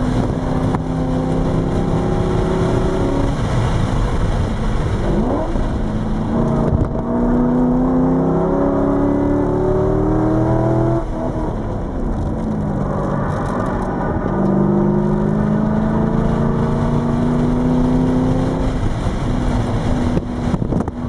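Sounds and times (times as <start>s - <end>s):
car engine accelerating: 0.0s - 21.0s
wind and tyre hiss: 0.0s - 21.0s.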